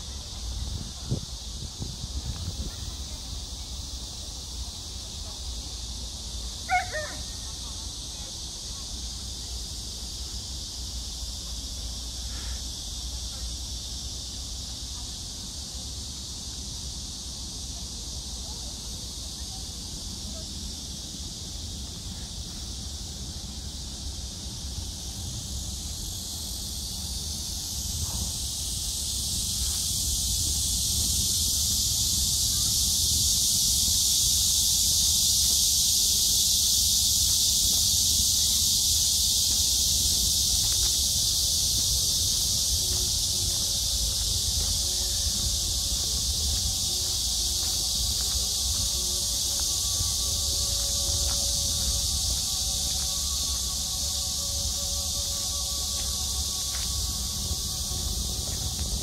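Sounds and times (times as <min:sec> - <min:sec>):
insect chorus hissing: 0:00.0 - 0:59.0.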